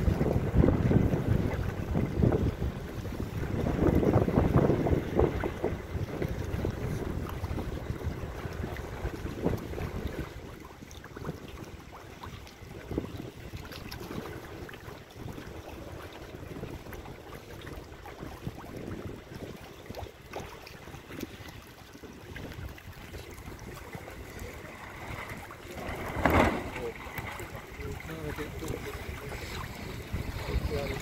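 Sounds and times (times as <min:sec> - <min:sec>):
wind on microphone: 0:00.0 - 0:31.0
lapping water: 0:03.4 - 0:31.0.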